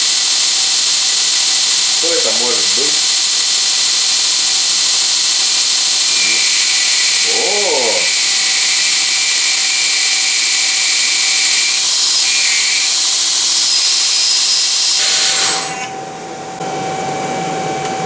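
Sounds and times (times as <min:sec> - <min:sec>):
electric motor whistling hiss: 0:00.0 - 0:16.0.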